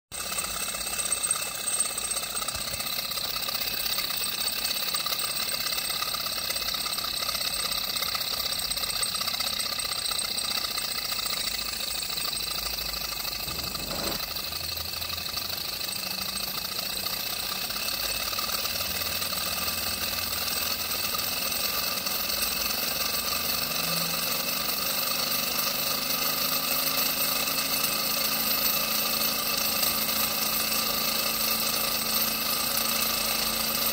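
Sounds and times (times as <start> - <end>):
model engine mechanical rattle: 0.2 - 33.9.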